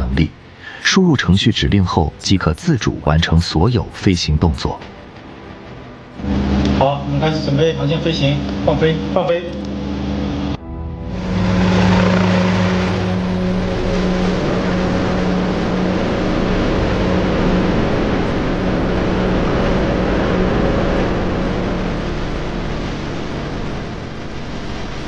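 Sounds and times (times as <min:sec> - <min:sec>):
helicopter engine hum: 0:04.8 - 0:25.0.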